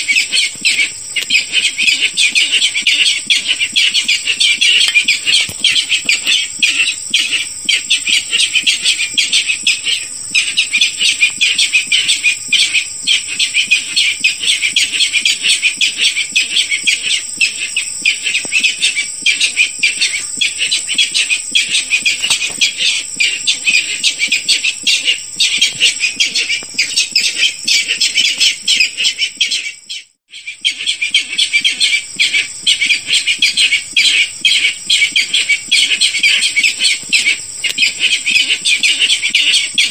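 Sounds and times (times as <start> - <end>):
bird calls shrill rapid notes: 0.0 - 39.9.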